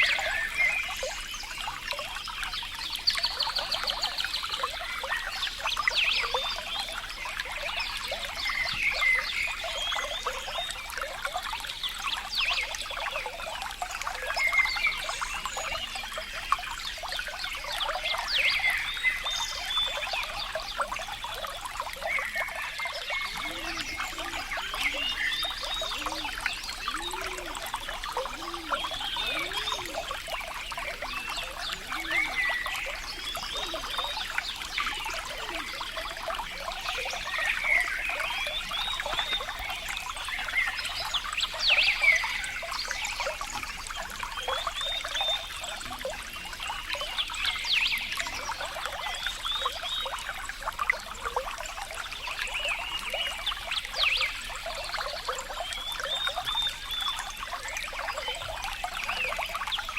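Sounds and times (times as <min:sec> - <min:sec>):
water trickling and splashing: 0:00.0 - 0:59.9.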